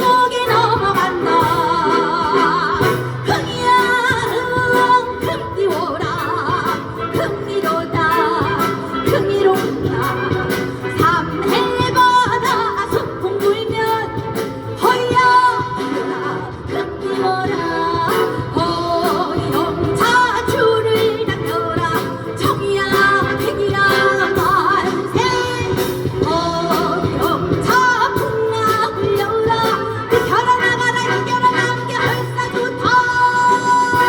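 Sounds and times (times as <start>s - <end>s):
woman singing with vibrato: 0.0s - 34.0s.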